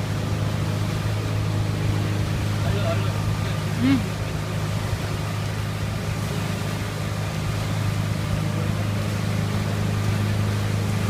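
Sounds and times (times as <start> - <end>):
motorboat engine humming: 0.0 - 11.0
rush of water: 0.0 - 11.0.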